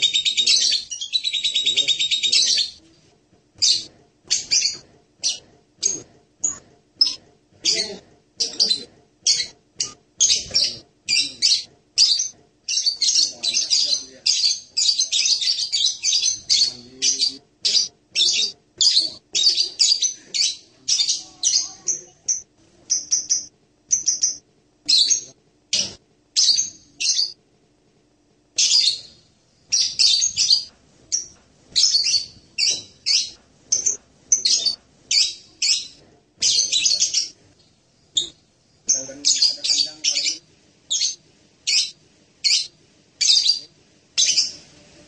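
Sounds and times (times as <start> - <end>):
parrot chirping: 0.0 - 2.8, 3.6 - 27.4, 28.6 - 44.7.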